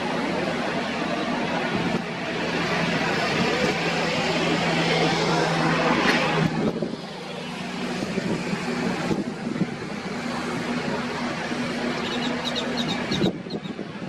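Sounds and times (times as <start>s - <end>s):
wind noise on microphone: 0.0s - 4.6s, 5.9s - 14.0s
engine drone: 0.0s - 14.0s.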